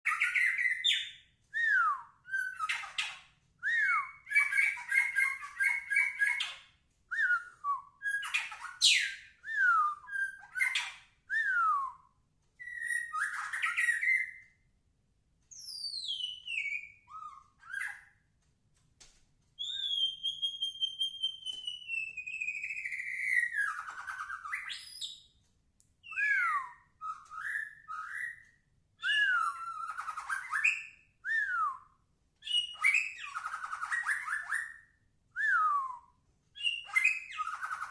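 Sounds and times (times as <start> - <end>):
bird singing whistled phrases: 0.1 - 14.4, 15.6 - 18.1, 19.6 - 25.3, 26.0 - 37.9.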